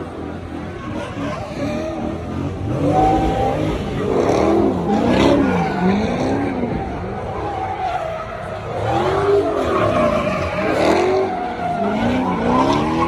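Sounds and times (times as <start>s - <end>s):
car engine revving hard: 0.2s - 6.8s, 8.7s - 13.0s.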